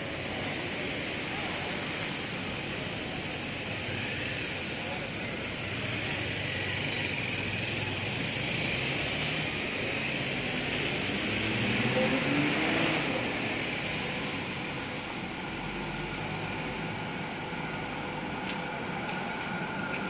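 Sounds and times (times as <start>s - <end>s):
cars idling and passing: 0.0s - 20.0s
electric tram approaching: 0.0s - 20.0s.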